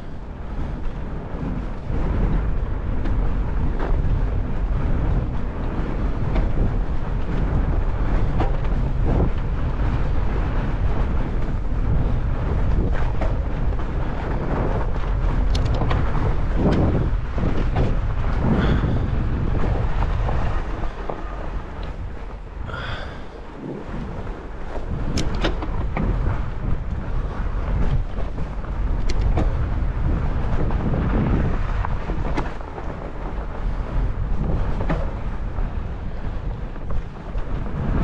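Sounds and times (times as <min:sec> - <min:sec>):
bike rattling over bumps: 0:00.0 - 0:38.0
tyres rumbling on snow: 0:00.0 - 0:38.0
wind buffeting microphone: 0:00.0 - 0:38.0.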